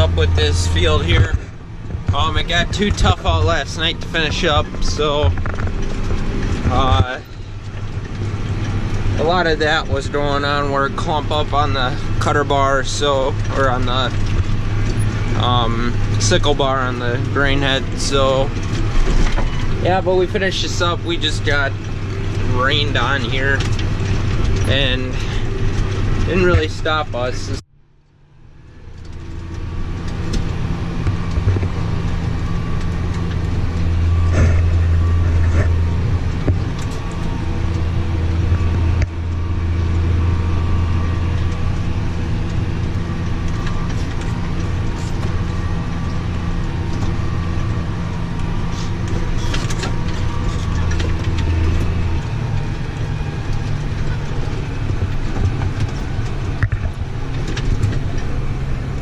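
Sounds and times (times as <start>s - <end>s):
farm machine engine humming: 0.0s - 59.0s.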